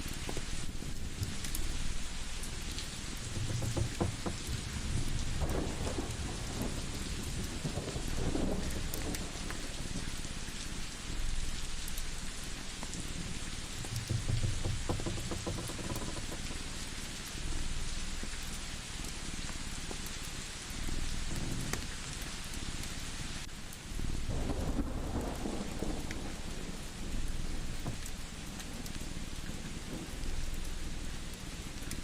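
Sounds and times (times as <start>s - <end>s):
rain-like hiss: 0.0s - 32.0s
scattered crackles: 0.0s - 32.0s.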